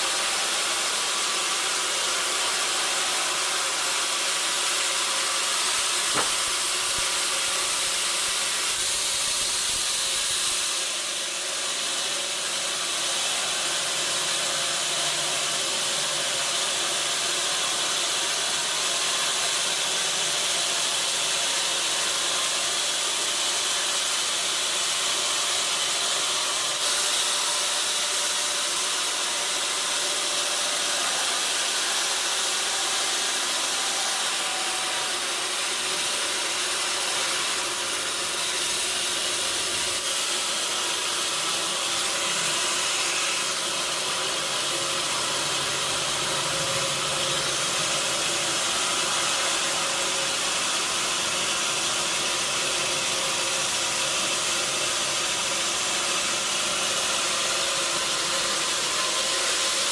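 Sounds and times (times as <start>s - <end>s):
sawmill machinery hissing: 0.0s - 59.9s.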